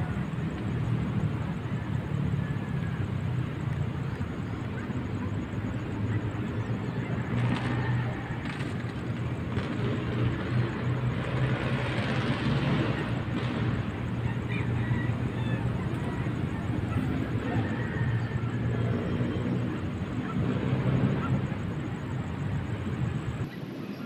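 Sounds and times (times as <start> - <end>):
city traffic hum: 0.0 - 24.0.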